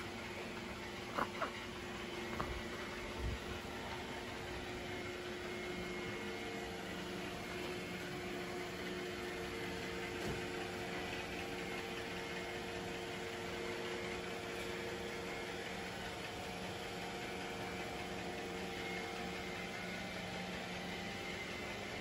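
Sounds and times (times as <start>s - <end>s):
household machinery hum: 0.0s - 22.0s.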